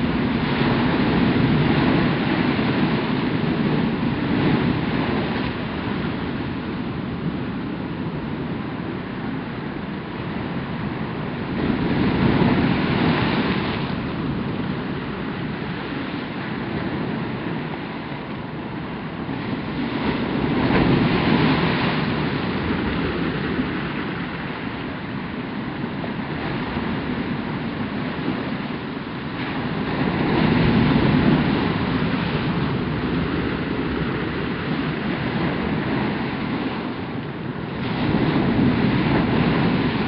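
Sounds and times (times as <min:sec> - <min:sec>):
ocean surf washing over rocks: 0:00.0 - 0:40.0.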